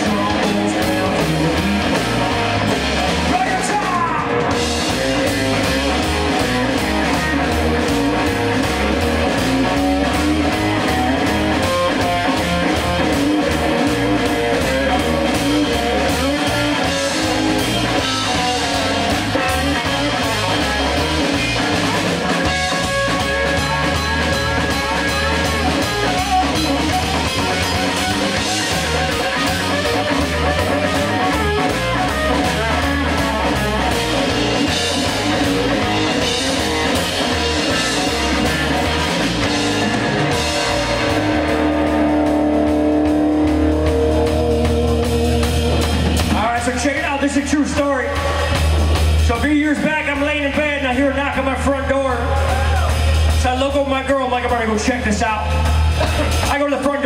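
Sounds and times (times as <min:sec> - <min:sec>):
bass line: 0:00.0 - 0:57.0
drum kit: 0:00.0 - 0:57.0
electric guitar: 0:00.0 - 0:57.0.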